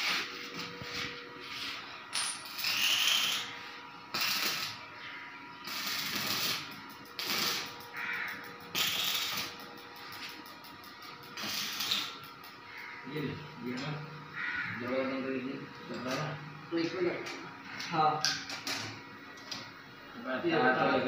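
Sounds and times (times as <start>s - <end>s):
arc welding crackling sizzle: 0.0s - 19.7s.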